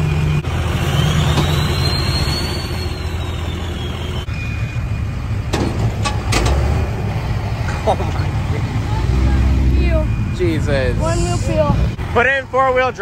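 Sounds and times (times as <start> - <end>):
truck engine running at low speed: 0.0 - 13.0.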